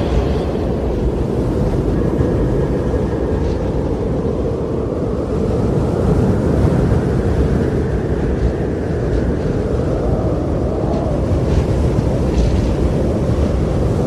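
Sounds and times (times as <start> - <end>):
loud outdoor rushing noise: 0.0 - 14.0.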